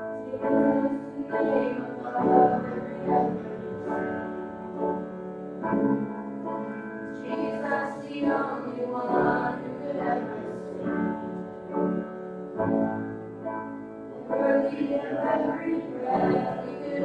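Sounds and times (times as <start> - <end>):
group singing a hymn: 0.2 - 6.1, 7.2 - 13.0, 14.1 - 17.0.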